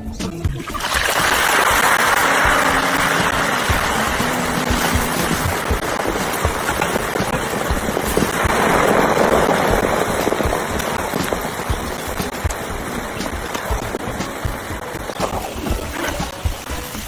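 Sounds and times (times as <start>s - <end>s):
food frying in hot oil: 0.6s - 17.0s.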